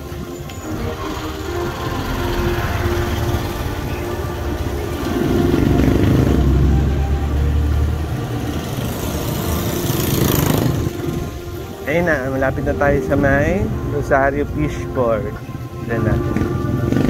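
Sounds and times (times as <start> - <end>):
motorcycle engines rumbling: 0.0 - 17.0.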